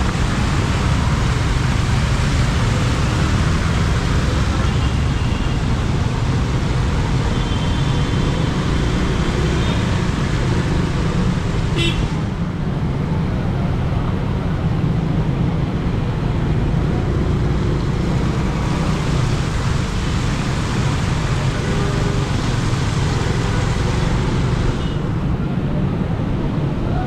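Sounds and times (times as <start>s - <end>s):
road traffic noise: 0.0s - 27.0s.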